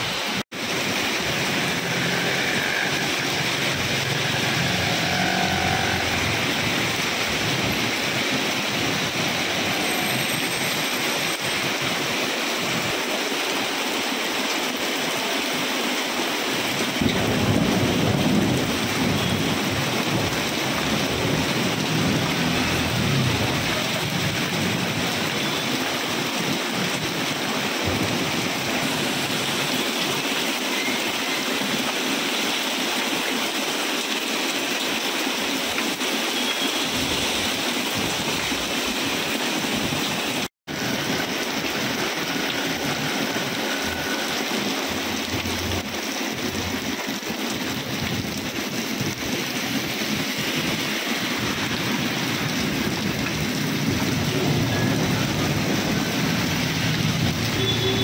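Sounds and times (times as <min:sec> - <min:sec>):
rain on a wet street: 0:00.0 - 0:58.0.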